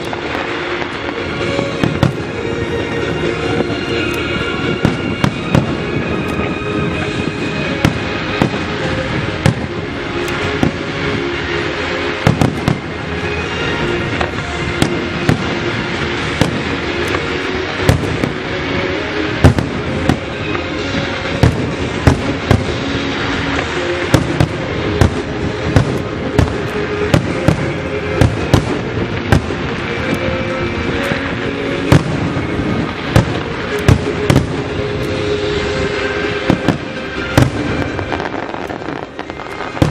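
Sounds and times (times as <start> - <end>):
fireworks crackle: 0.0 - 39.9.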